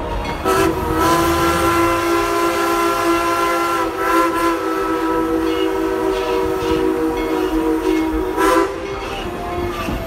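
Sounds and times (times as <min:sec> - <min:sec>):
steam locomotive chime whistle: 0:00.0 - 0:10.0.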